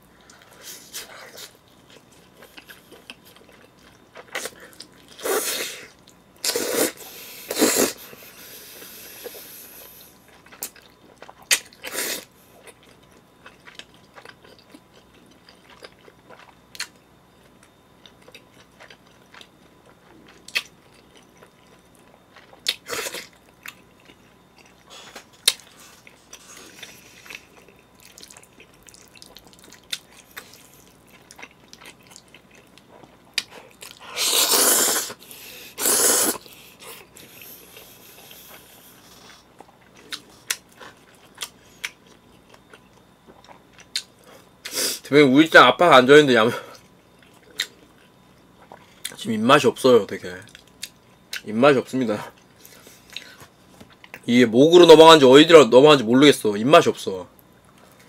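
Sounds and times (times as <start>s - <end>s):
person chewing pizza: 0.2s - 45.0s, 46.6s - 49.2s, 52.1s - 54.3s.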